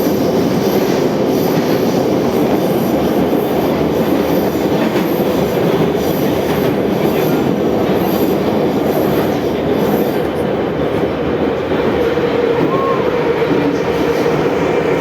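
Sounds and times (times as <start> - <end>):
metro train wheels rumbling on rails: 0.0 - 15.0.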